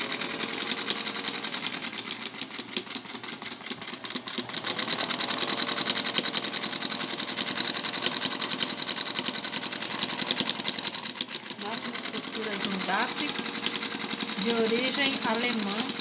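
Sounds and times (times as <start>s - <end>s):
sewing machine clattering: 0.0s - 16.0s.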